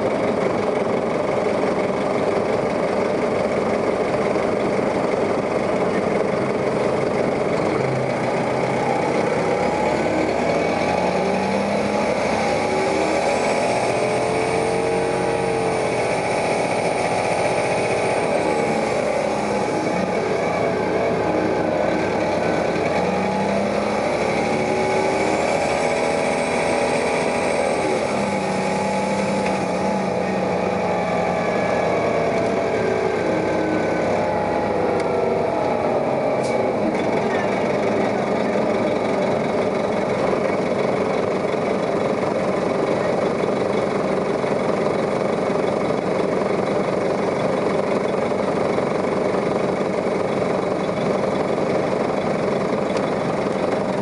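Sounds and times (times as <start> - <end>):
bus engine accelerating: 0.0 - 54.0
high drivetrain whine: 0.0 - 54.0.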